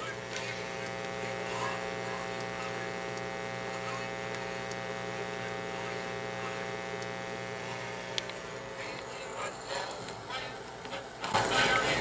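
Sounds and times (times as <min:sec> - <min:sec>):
speaker mains hum and buzz: 0:00.0 - 0:12.0.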